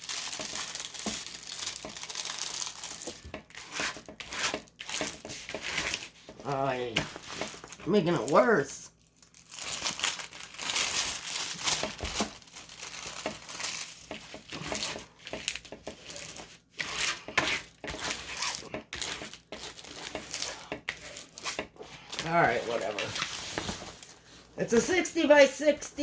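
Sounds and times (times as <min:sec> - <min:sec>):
packaging crinkling and tearing: 0:00.0 - 0:24.5.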